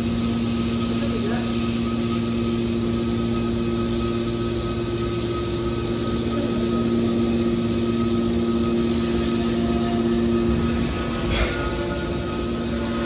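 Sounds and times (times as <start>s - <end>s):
hydraulic power unit humming: 0.0s - 13.0s
hydraulic pump whine: 0.0s - 13.0s.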